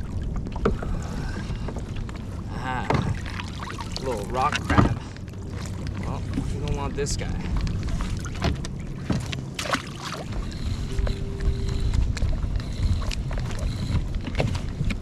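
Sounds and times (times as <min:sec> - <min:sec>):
water rumbling against kayak: 0:00.0 - 0:15.0
wind on microphone: 0:00.0 - 0:15.0.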